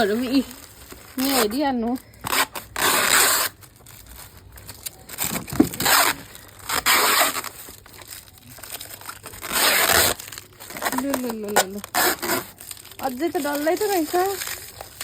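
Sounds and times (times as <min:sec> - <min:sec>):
wrapping crinkling and rustling: 0:00.0 - 0:15.0
wrapping ripping: 0:00.0 - 0:15.0.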